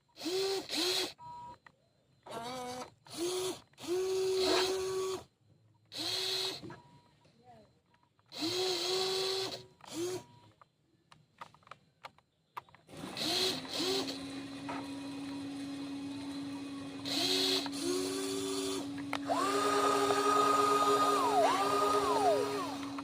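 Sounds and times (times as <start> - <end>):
small electric motors whining: 0.1 - 6.8, 8.2 - 10.6, 12.8 - 23.0.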